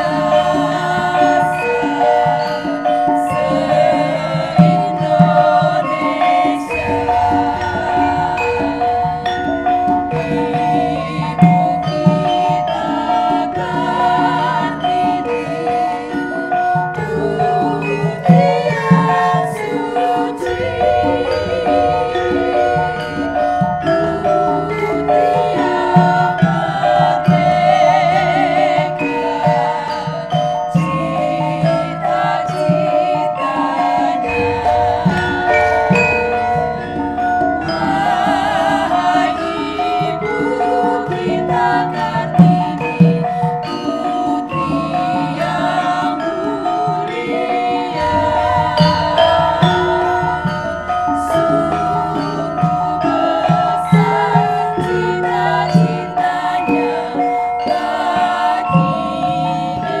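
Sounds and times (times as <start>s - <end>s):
gamelan ensemble playing: 0.0s - 60.0s
person singing: 0.0s - 60.0s
struck metallophones ringing: 0.0s - 60.0s.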